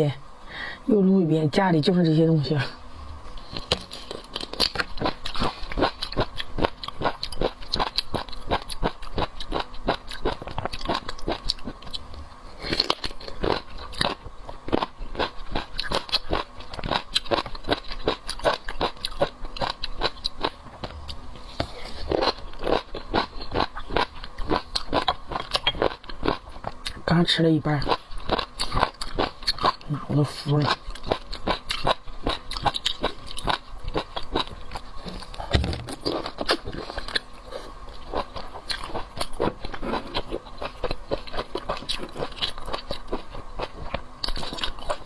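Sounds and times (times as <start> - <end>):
person chewing shrimp: 3.2 - 27.0, 27.8 - 45.0.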